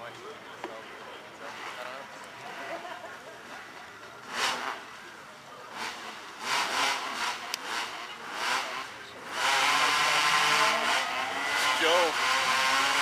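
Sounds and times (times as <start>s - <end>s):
racing engines revving: 0.8s - 13.0s.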